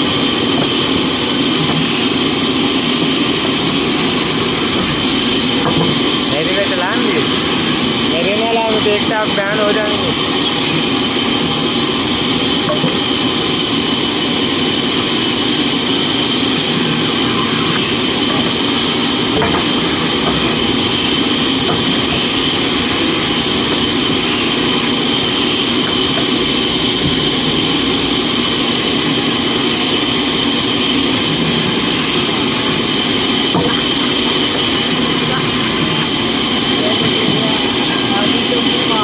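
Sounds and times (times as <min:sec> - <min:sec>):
woodworking machine whining: 0:00.0 - 0:39.0.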